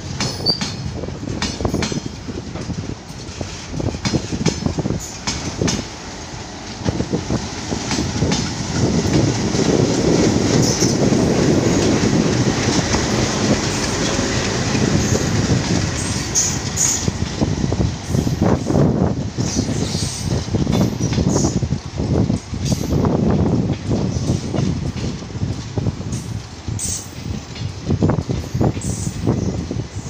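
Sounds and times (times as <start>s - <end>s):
diesel locomotive engines: 0.0s - 30.0s
train wheels clacking on rails: 0.0s - 30.0s.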